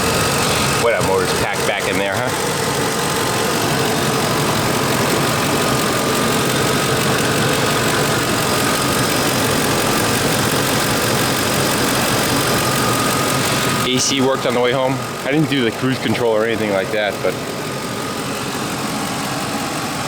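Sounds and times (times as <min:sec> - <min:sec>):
pickup engine idling: 0:00.0 - 0:20.0.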